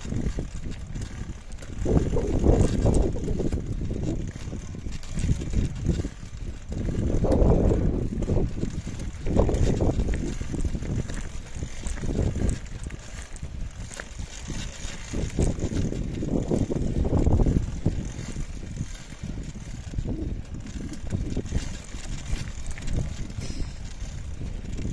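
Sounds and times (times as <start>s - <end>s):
bike tyres crunching on gravel: 0.0s - 24.9s
wind buffeting microphone: 0.0s - 24.9s.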